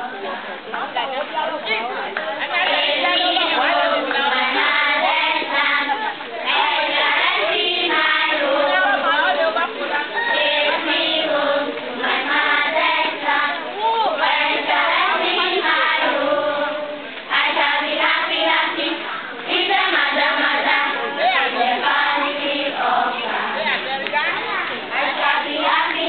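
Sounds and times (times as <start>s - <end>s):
children singing a marching song: 2.5s - 26.0s.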